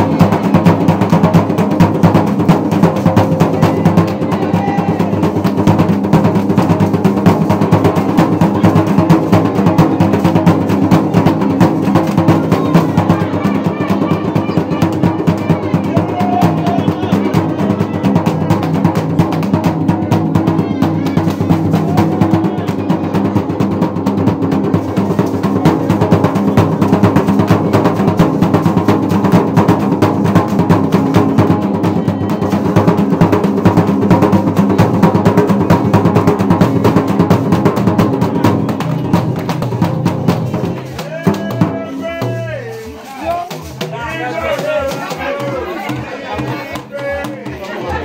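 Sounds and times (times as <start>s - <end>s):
fast hand drum beaten with stick: 0.0s - 48.0s.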